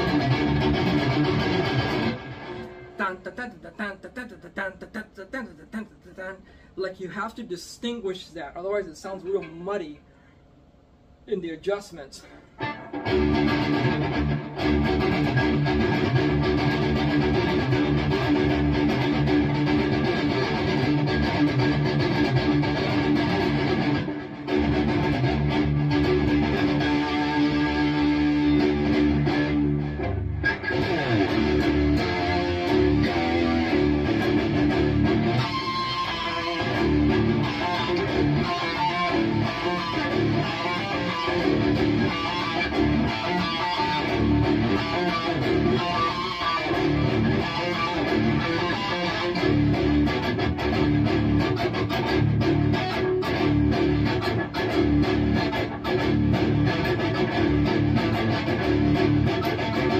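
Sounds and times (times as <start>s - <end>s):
distorted electric guitar riffing: 0.0s - 5.6s, 12.5s - 59.9s.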